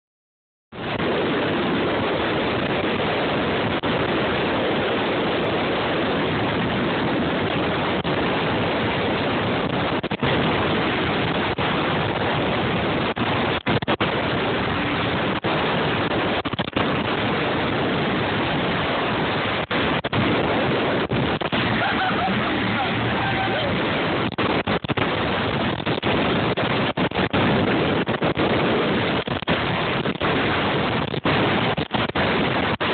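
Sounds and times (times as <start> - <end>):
water noise: 0.7 - 32.9
wind rushing on microphone: 0.7 - 32.9
boat engine: 0.8 - 32.9.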